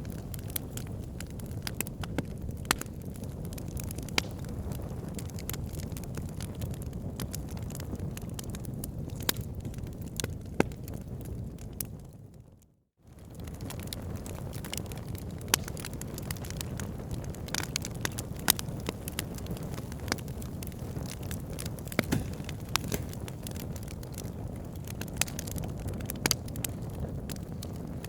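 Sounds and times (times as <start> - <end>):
fire rumbling and crackling: 0.0 - 28.0.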